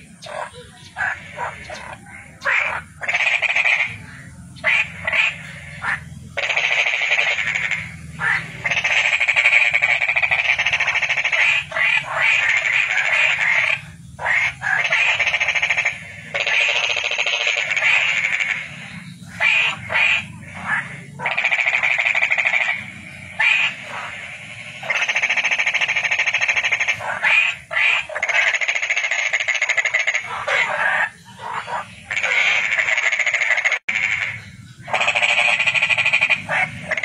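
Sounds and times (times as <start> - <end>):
toads calling in trills: 0.0 - 37.0.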